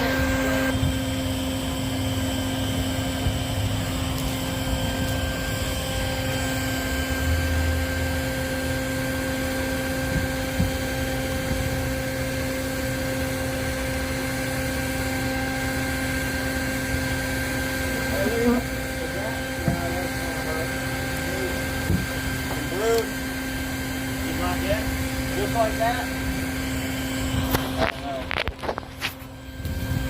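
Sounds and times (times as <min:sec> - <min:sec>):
high whine: 0:00.0 - 0:30.0
motor humming: 0:00.0 - 0:30.0.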